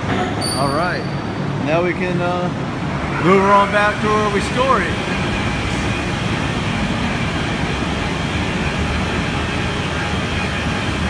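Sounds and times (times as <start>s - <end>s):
crane low mechanical drone: 0.0s - 11.0s.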